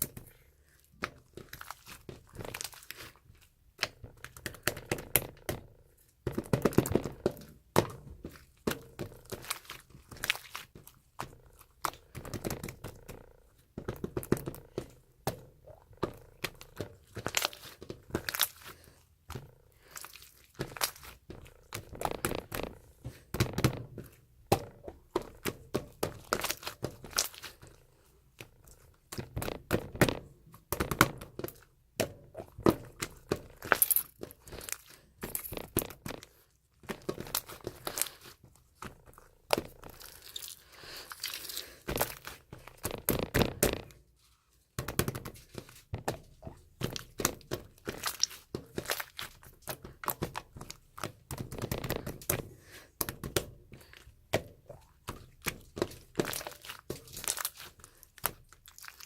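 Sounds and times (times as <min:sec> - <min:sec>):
slime squished by hand: 0:00.0 - 0:59.0.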